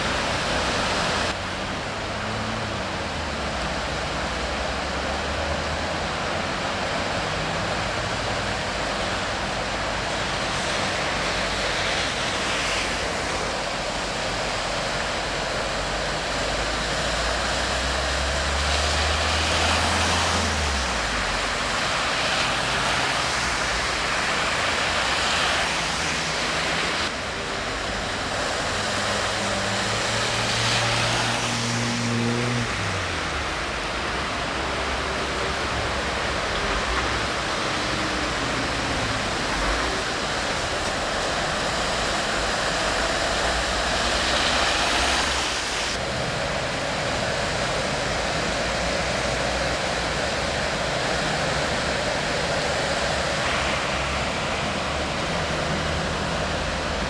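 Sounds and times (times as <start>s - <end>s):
heavy rain hissing: 0.0s - 57.0s
rushing water: 0.0s - 57.0s
water surging around cars: 0.0s - 57.0s.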